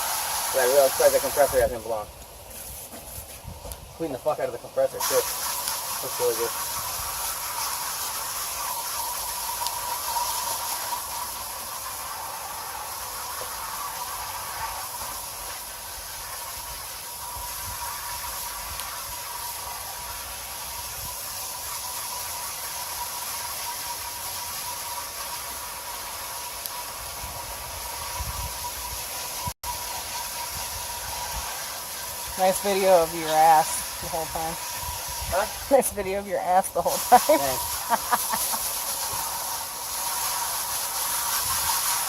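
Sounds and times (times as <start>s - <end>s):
water spraying from garden hose: 0.0s - 42.0s.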